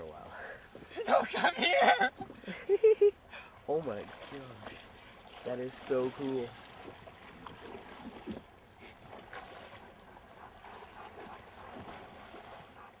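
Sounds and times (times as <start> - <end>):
light breeze: 0.0 - 13.0
water noise: 0.0 - 13.0.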